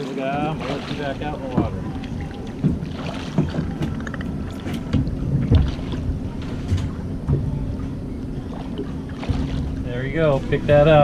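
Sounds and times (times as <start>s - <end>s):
steady low hum: 0.0s - 11.0s
knocks and thumps on boat: 0.3s - 11.0s.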